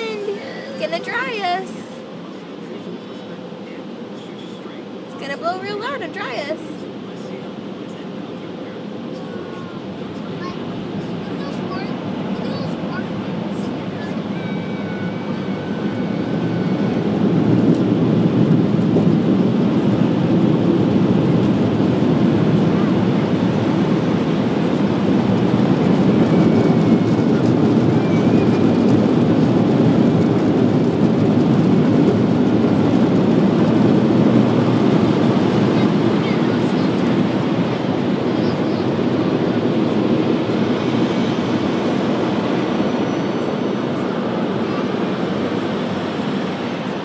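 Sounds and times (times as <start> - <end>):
car wash blower dryers: 0.0 - 47.0.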